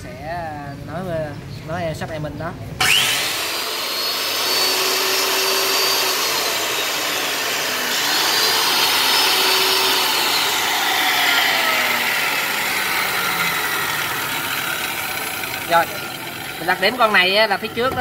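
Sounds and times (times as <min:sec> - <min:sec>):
cut-off saw motor whine: 0:02.8 - 0:18.0.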